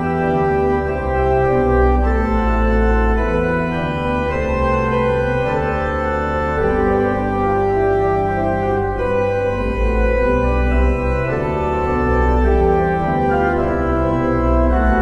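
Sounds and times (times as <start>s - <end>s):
deep bass line: 0.0s - 15.0s
organ playing held chords: 0.0s - 15.0s.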